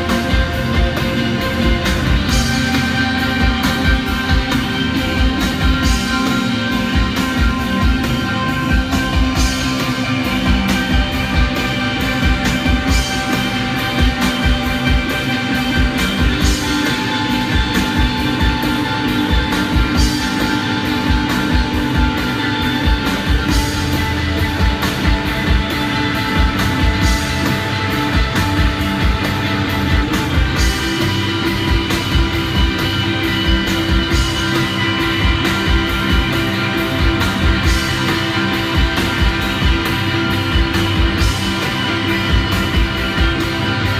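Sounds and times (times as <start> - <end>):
drum beat: 0.0 - 43.9
electric guitar chords: 0.0 - 43.9.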